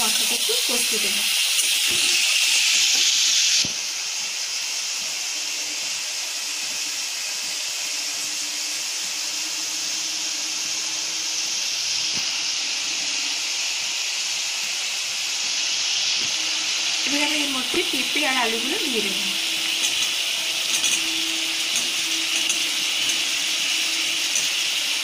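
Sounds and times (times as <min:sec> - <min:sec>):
paste sizzling in hot oil: 0:00.0 - 0:25.0.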